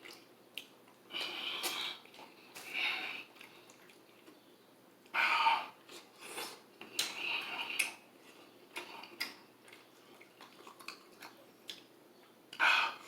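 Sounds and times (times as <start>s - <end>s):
wet chewing and smacking: 0.0s - 5.1s, 5.8s - 13.0s.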